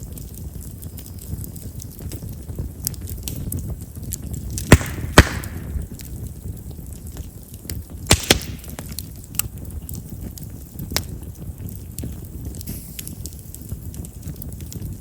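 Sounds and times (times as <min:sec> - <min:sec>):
campfire crackling: 0:00.0 - 0:15.0
loud sharp pops of fire: 0:00.0 - 0:15.0.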